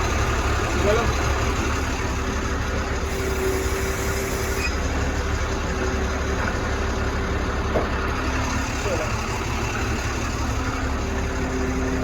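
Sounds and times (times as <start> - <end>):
engine whine: 0.0 - 12.0
heavy truck engine running: 0.0 - 12.0.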